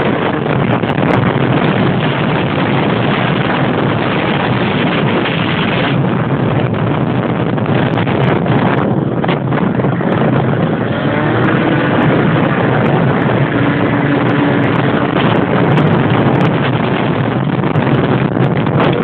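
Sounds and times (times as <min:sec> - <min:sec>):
motorcycle engine running: 0:00.0 - 0:19.0
wind rush on microphone: 0:00.0 - 0:19.0.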